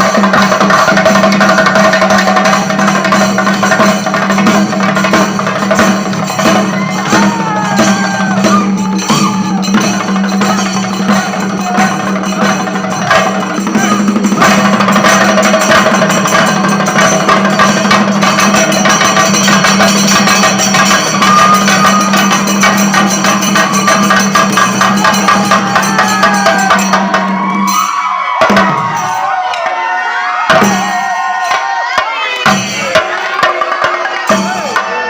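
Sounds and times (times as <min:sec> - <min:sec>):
clacking percussion: 0:00.0 - 0:29.9, 0:30.5 - 0:35.0.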